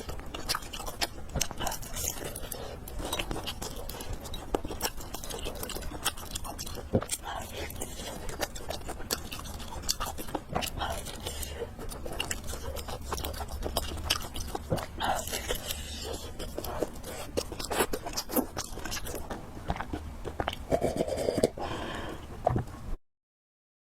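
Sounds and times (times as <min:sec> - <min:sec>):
wet chewing and biting: 0:00.0 - 0:21.6.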